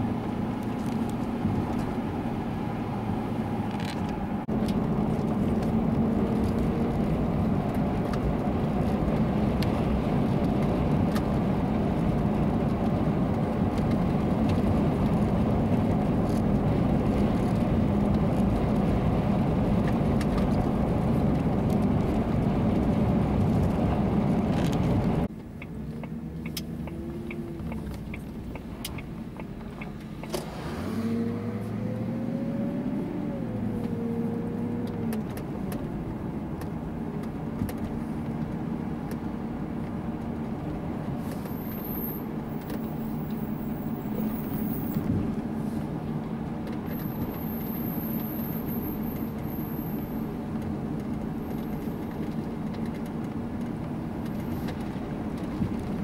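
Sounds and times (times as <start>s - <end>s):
car engine: 0.0s - 56.0s
road noise: 0.0s - 56.0s.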